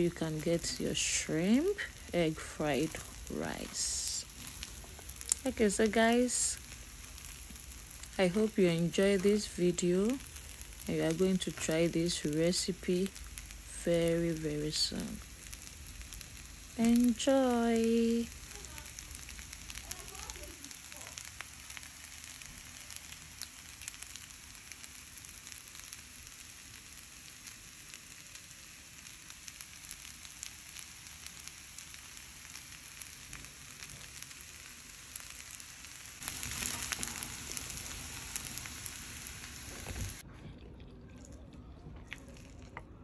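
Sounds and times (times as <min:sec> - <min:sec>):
rice sizzling in a hot pan: 0:00.0 - 0:40.2.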